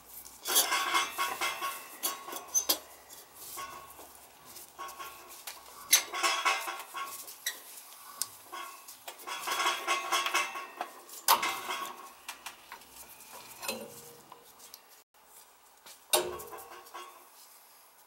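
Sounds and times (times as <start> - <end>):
sheet metal clinking and scraping: 0.3 - 14.5, 16.1 - 17.4.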